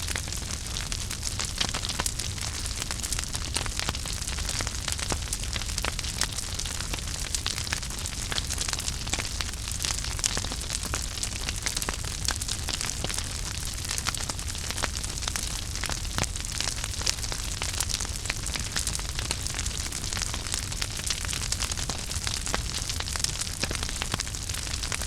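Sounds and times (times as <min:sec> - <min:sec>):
fire flames hissing: 0:00.0 - 0:05.0, 0:05.7 - 0:25.0
fire crackling and popping: 0:00.0 - 0:25.0.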